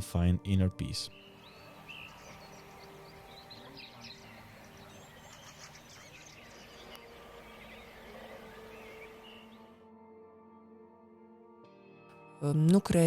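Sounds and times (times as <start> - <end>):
birds chirping faintly: 0.0 - 11.4.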